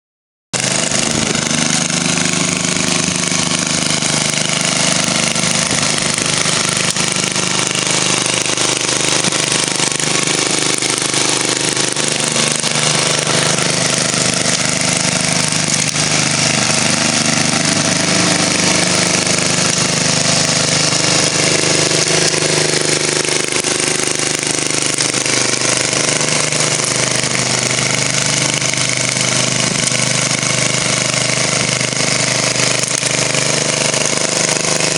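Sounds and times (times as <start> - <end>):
snowblower engine running: 0.5 - 34.9.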